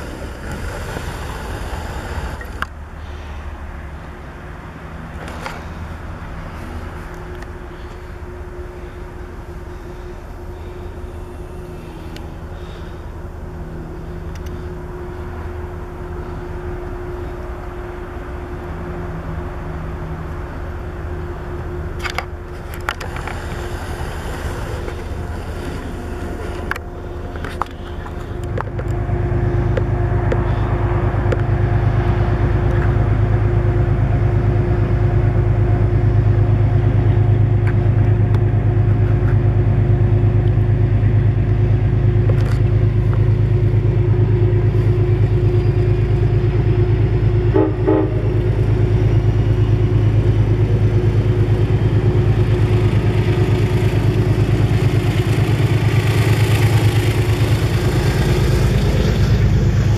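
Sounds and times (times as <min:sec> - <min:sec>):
diesel locomotive engine drone: 0:00.0 - 0:59.9
train rumble: 0:00.0 - 0:59.9.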